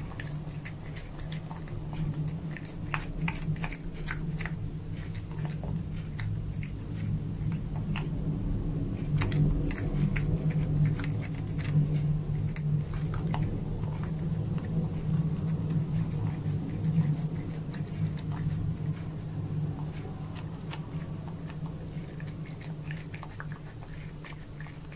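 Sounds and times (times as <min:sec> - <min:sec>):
cat chewing crunchy crumbs: 0:00.0 - 0:24.9
steady low hum: 0:00.0 - 0:24.9.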